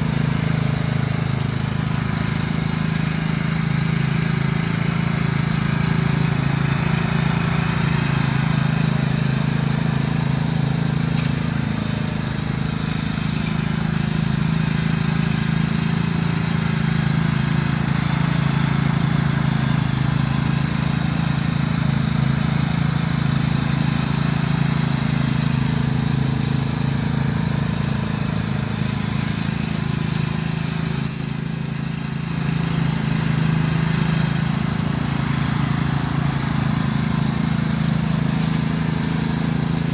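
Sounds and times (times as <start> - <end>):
riding mower running: 0.0 - 39.9.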